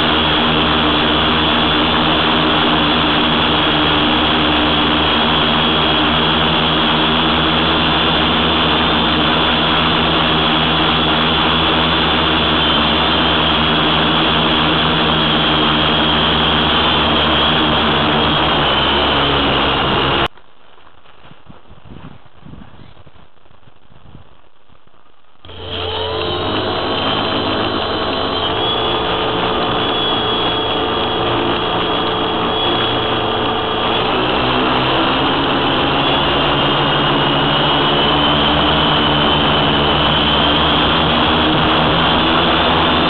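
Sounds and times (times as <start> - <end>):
drone motors whining: 0.0 - 20.3, 25.4 - 43.0.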